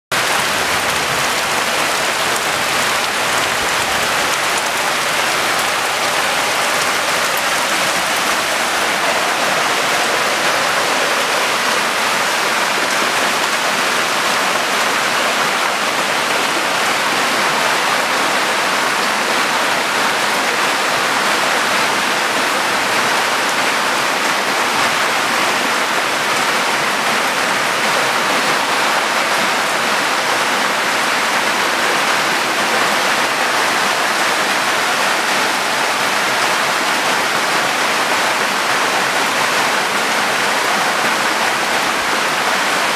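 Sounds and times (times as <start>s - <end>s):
floodwater rushing: 0.1s - 42.9s
heavy rain: 0.1s - 42.9s.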